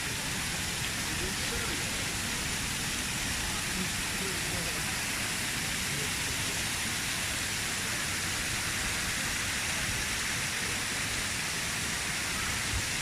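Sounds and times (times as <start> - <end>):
waterfall rushing over rock: 0.0 - 13.0.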